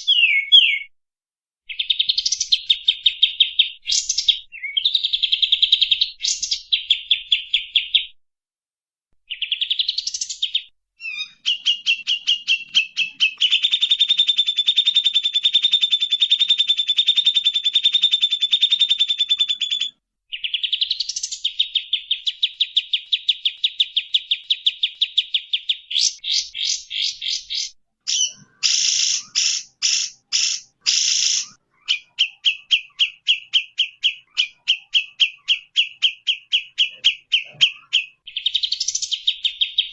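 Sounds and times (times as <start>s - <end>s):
songbird trilling and chirping: 0.0s - 0.9s, 1.7s - 8.2s, 9.3s - 39.9s.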